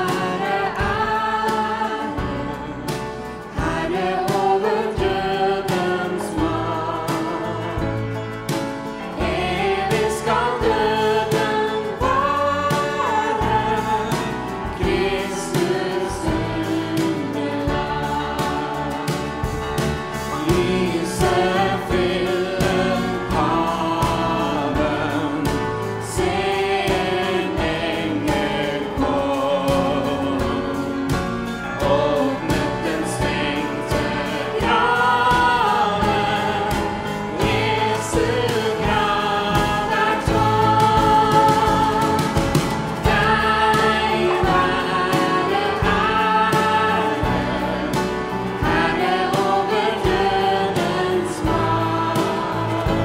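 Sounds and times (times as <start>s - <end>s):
women singing a hymn: 0.0s - 53.0s
worship band playing: 0.0s - 53.0s.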